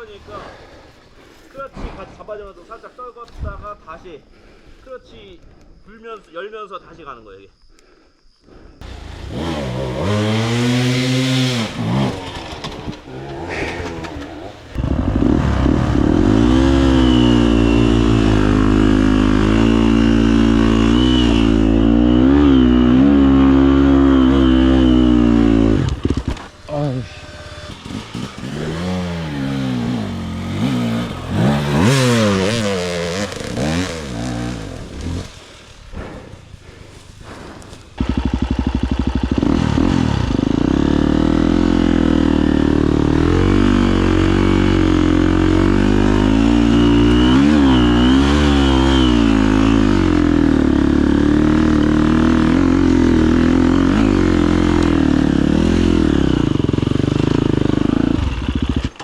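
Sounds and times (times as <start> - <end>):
motorcycle engine revving: 8.8 - 35.7, 38.0 - 59.0.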